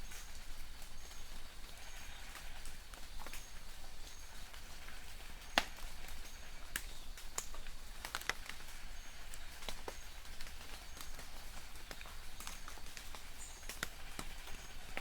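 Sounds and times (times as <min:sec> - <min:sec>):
light rain hiss: 0:00.0 - 0:15.0
raindrops dripping: 0:00.0 - 0:15.0.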